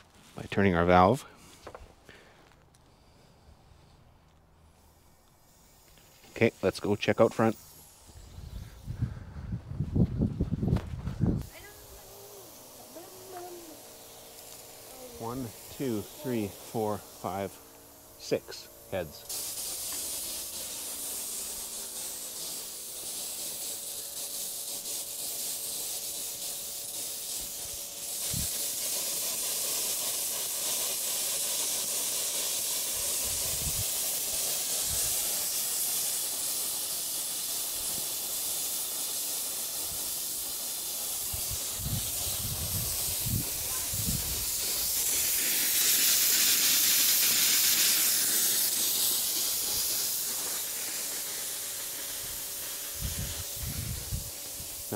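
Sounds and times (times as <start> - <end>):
sprinkler heads hissing: 0.0 - 54.9.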